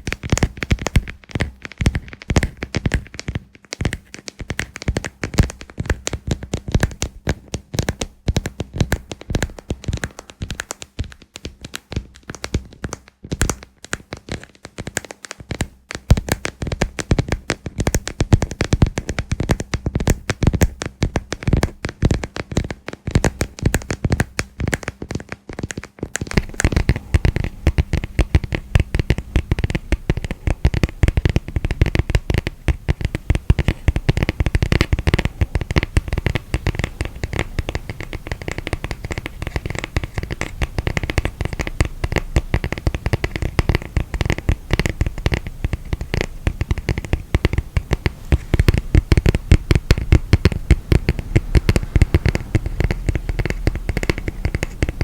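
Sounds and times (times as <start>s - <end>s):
fingers tapping and scratching lamp: 0.0s - 55.0s.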